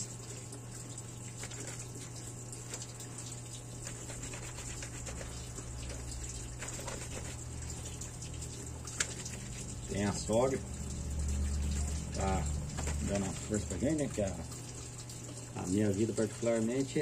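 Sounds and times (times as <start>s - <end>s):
steady low hum: 0.0s - 17.0s
water splashing: 0.0s - 17.0s
wet cloth scrubbed and wrung: 0.0s - 17.0s.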